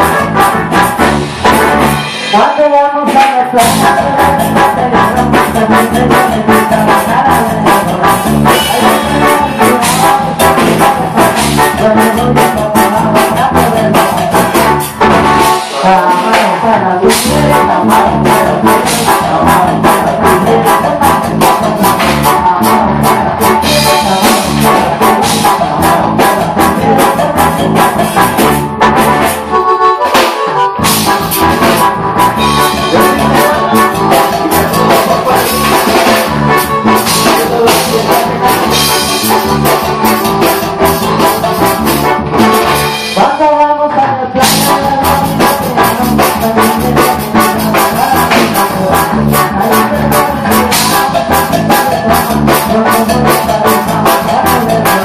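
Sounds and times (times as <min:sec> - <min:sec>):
congas: 0:00.0 - 0:43.8, 0:44.4 - 0:55.0
drum kit: 0:00.0 - 0:55.0
electric guitar: 0:00.0 - 0:55.0
keyboard: 0:00.0 - 0:55.0.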